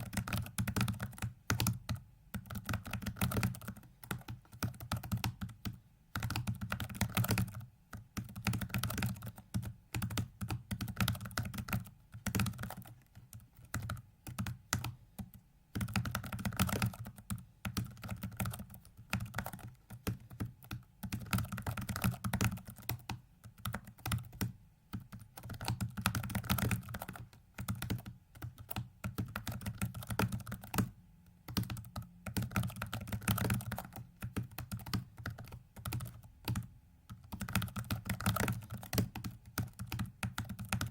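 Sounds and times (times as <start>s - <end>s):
rapid keyboard typing: 0.0s - 40.9s.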